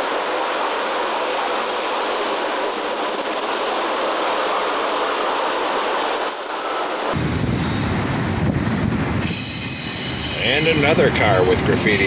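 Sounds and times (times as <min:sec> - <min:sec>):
freight train wheels rolling on rails: 0:00.0 - 0:12.0.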